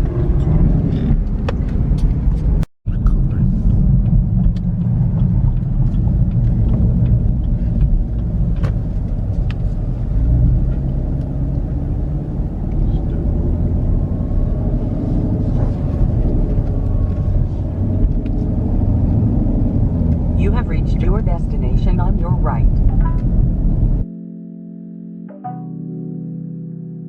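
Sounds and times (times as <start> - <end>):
engine and tyre rumble in car: 0.0 - 24.0.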